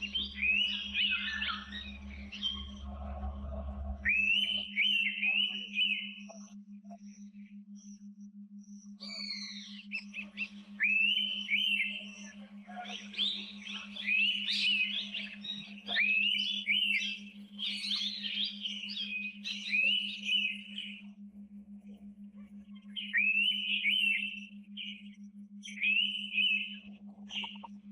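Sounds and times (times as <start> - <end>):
forest birds calling: 0.0 - 6.4, 9.0 - 21.0, 22.8 - 27.8
pulsing low hum: 0.0 - 27.9.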